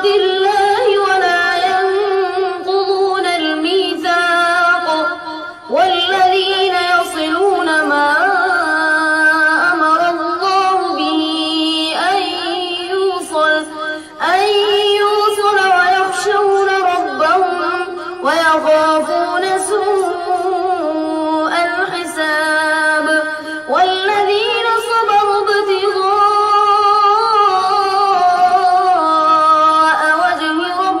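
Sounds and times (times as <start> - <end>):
boy chanting recitation: 0.0 - 31.0.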